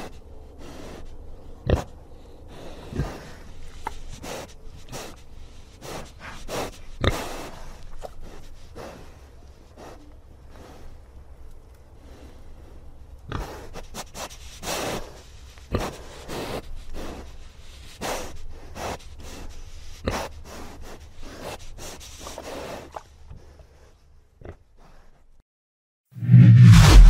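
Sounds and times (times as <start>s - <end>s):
animals chewing and crunching fruit: 0.0s - 25.4s.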